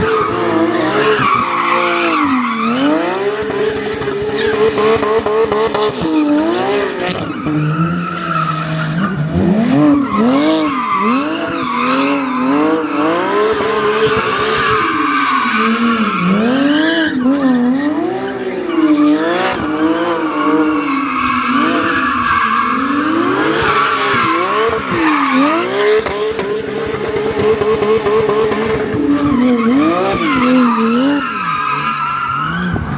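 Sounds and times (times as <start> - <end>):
sports car engine revving: 0.0 - 32.9.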